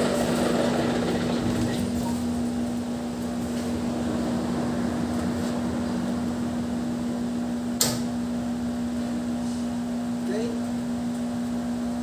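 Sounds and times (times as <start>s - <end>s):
diesel generator humming: 0.0s - 12.0s.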